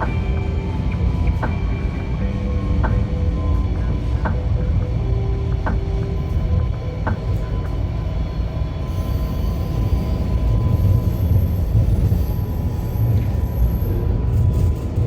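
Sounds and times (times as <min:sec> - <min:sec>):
tram wheels rumbling on track: 0:00.0 - 0:15.0.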